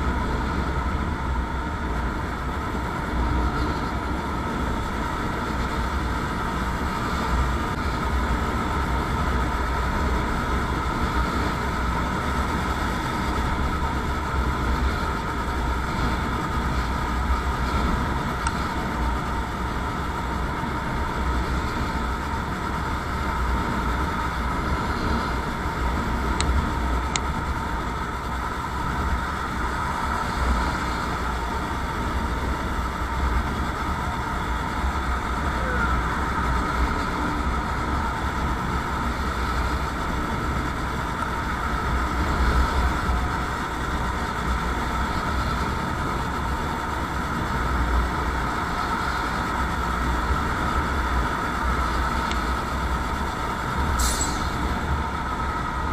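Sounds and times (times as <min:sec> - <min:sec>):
motorcycle engine drone: 0:00.0 - 0:55.9
road and wind noise: 0:00.0 - 0:55.9.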